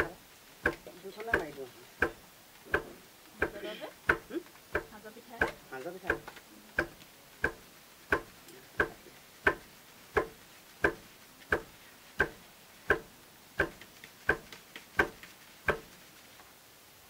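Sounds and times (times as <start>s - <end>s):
sieve tapping on metal basin: 0.0s - 16.0s.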